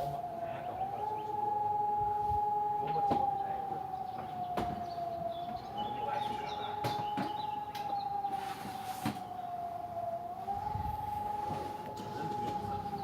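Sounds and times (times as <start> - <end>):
howling electronic siren: 0.0 - 13.0.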